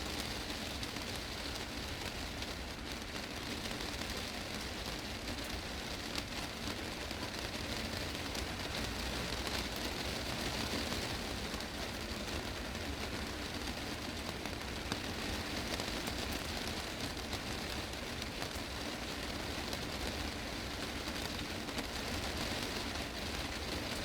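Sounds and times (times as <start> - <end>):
heavy rain on glass roof: 0.0 - 24.0.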